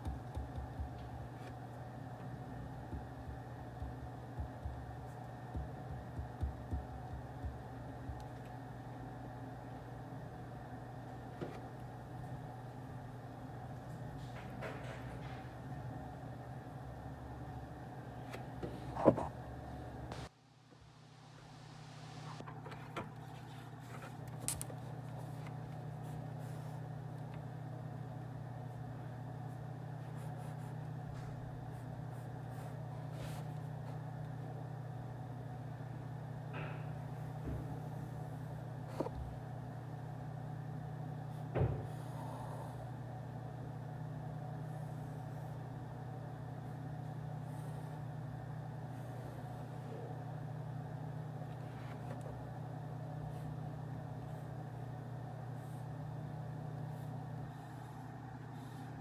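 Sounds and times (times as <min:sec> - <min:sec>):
ventilation hum: 0:00.0 - 0:59.0.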